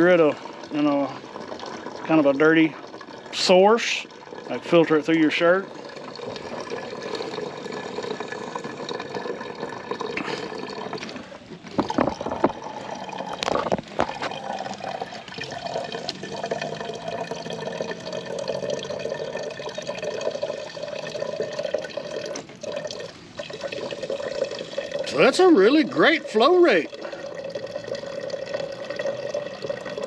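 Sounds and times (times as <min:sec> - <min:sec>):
water pouring into plastic jug: 0:00.0 - 0:30.0.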